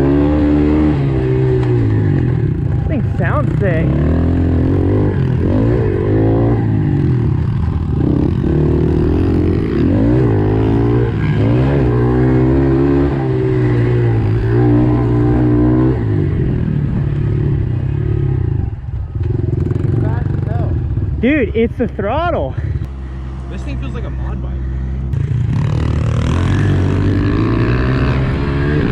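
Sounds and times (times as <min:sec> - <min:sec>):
dirt bike engine accelerating: 0:00.0 - 0:24.2, 0:25.1 - 0:28.9.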